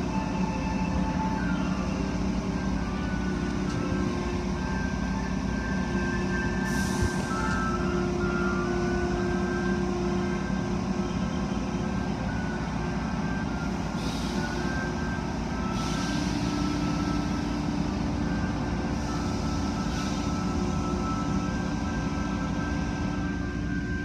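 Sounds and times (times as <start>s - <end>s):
motors and pumps humming: 0.0s - 24.0s
steady machine whines: 0.0s - 24.0s.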